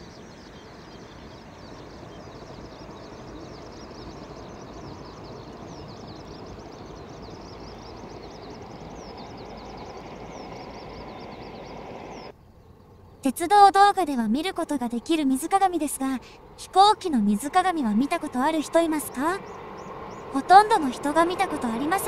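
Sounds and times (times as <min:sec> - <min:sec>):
birds chirping: 0:00.0 - 0:22.0
distant train rumble: 0:00.0 - 0:22.0
faint steady tone: 0:00.0 - 0:22.0.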